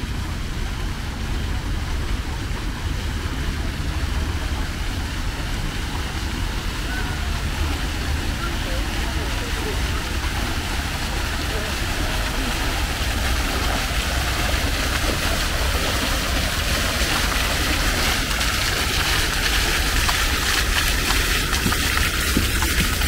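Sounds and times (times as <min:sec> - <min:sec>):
water fountains splashing: 0:00.0 - 0:23.0.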